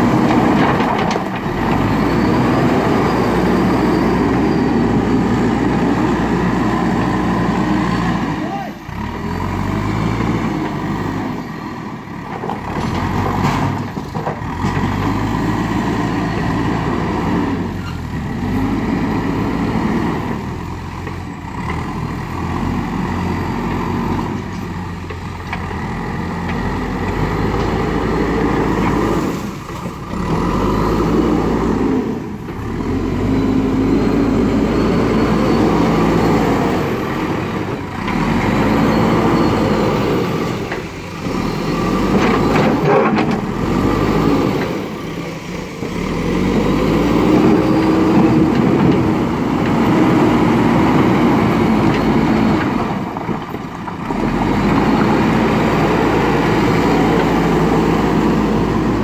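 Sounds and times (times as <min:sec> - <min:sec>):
diesel engine revving under load: 0:00.0 - 0:59.0.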